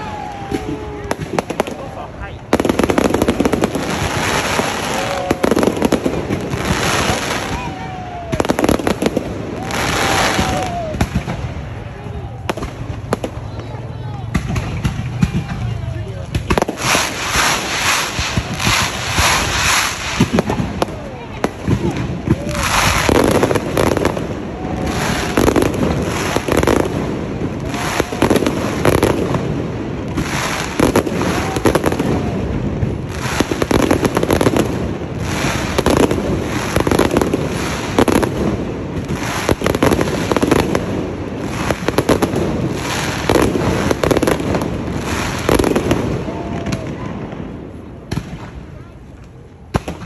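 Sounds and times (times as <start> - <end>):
fireworks bursting and crackling: 0.0 - 50.0.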